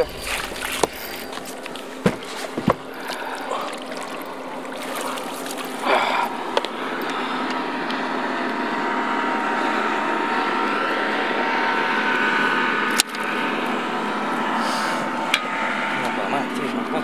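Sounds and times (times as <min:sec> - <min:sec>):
outboard engine running: 0:00.0 - 0:17.0.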